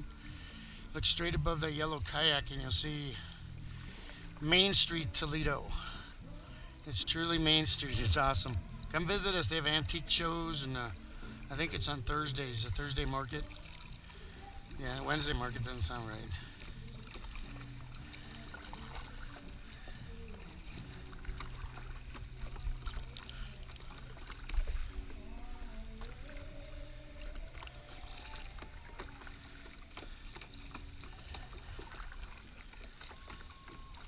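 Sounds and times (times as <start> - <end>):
steady low rumble: 0.0 - 28.0
paddle blades dipping: 0.0 - 34.0
water splashing and dripping: 0.0 - 34.0.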